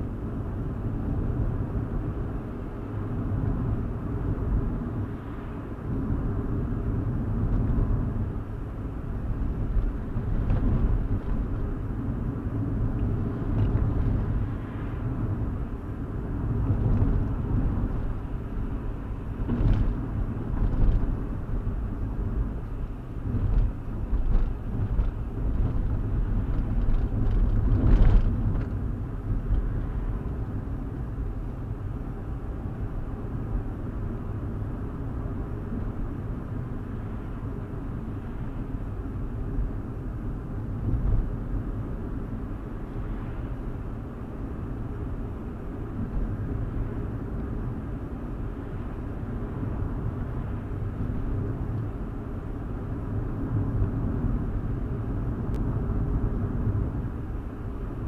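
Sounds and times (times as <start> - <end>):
road and engine rumble: 0.0 - 58.0.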